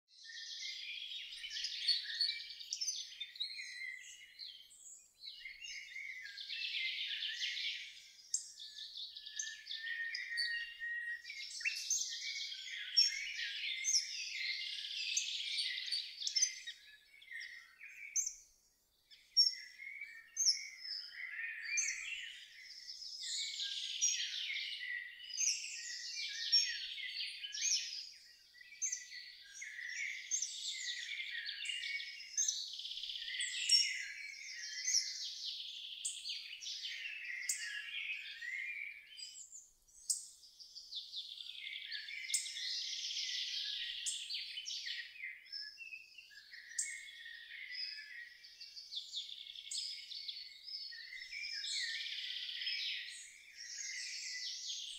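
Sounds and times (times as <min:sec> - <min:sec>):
songbirds singing and chirping: 0:00.0 - 0:54.9.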